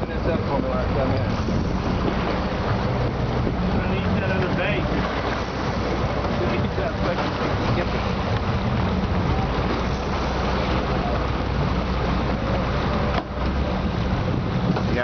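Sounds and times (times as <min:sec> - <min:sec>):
boat engine running: 0:00.0 - 0:15.0
wind noise on microphone: 0:00.0 - 0:15.0.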